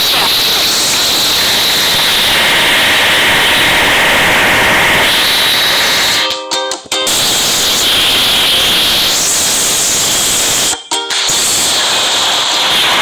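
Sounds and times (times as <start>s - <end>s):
loud static hiss: 0.0s - 6.4s, 7.0s - 13.0s.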